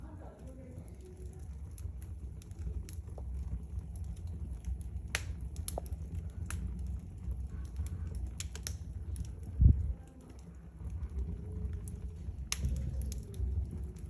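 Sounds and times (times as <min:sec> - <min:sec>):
low steady rumble: 0:00.0 - 0:14.0
wood fire crackling and popping: 0:00.0 - 0:14.0.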